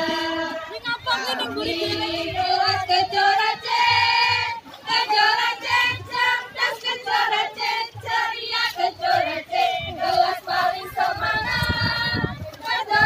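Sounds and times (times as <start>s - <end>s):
women singing a cheer: 0.0s - 13.0s.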